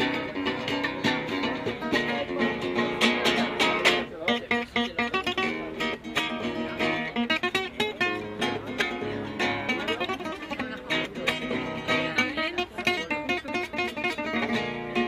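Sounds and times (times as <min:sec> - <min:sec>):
flamenco acoustic guitar: 0:00.0 - 0:15.0.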